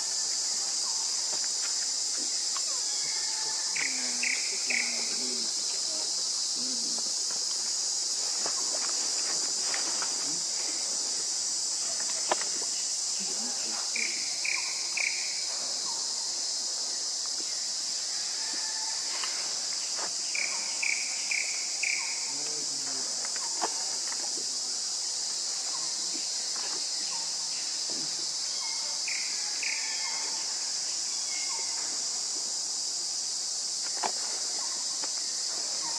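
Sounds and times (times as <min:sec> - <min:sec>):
insects droning: 0:00.0 - 0:35.9.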